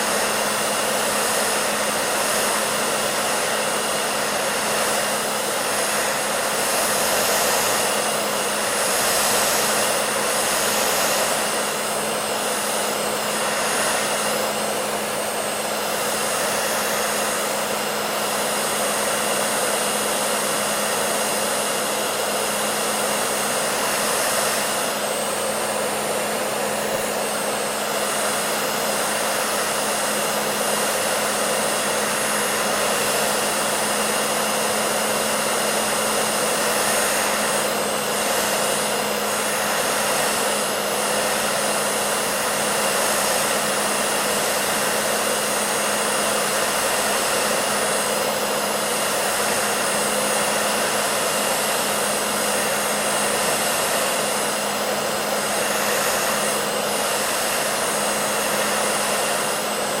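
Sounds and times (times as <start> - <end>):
hair dryer running: 0.0 - 60.0.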